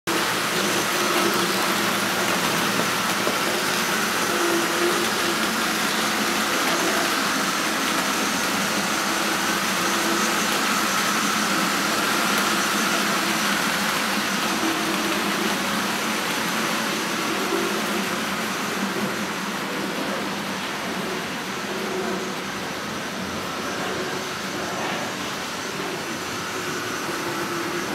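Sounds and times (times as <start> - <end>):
wheels clattering on track: 0.1 - 27.9.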